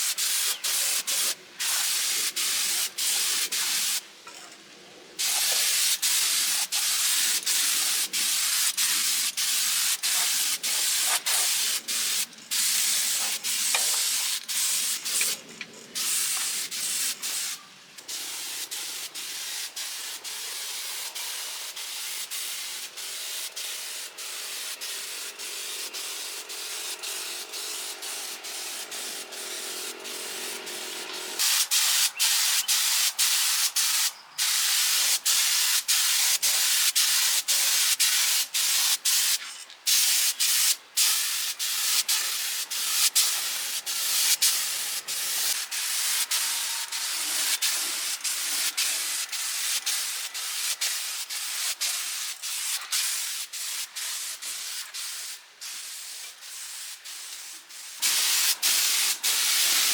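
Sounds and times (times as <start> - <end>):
air tool hissing bursts: 0.0 - 4.0, 5.2 - 59.9.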